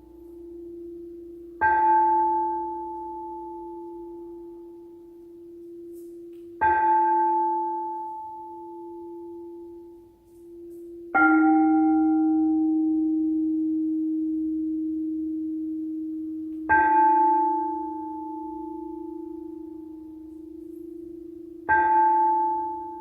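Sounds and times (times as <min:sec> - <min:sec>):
crystal singing bowls ringing: 0:00.0 - 0:23.0.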